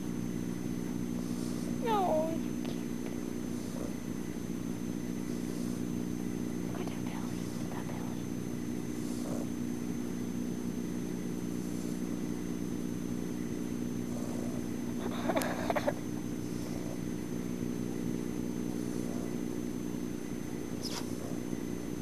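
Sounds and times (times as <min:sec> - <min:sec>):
steady low hum: 0:00.0 - 0:22.0
puppy snoring softly: 0:00.8 - 0:12.3, 0:13.4 - 0:22.0.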